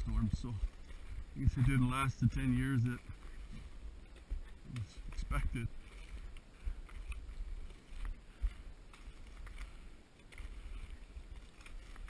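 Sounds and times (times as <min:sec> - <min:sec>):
snowshoe footsteps in snow: 0:00.0 - 0:12.0.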